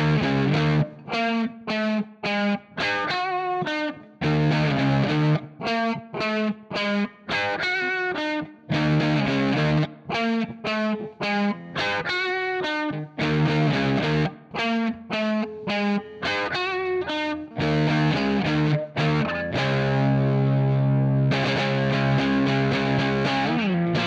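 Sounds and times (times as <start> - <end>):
distorted electric guitar chords: 0.0 - 24.0.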